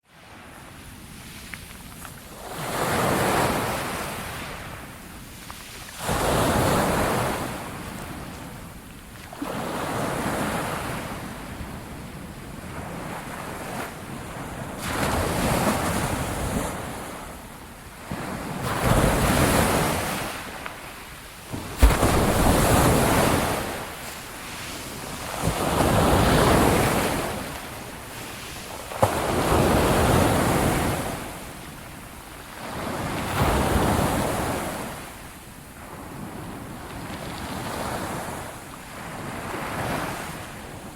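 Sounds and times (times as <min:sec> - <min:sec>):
waves breaking and washing in: 0:00.0 - 0:40.9.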